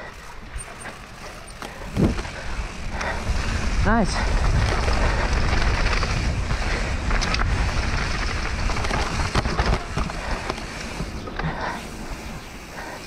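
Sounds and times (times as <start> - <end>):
bike knocks and rattles: 0.0 - 3.3, 4.3 - 11.8
tyres rolling over dirt: 0.0 - 13.0
wind buffeting the microphone: 0.1 - 12.8.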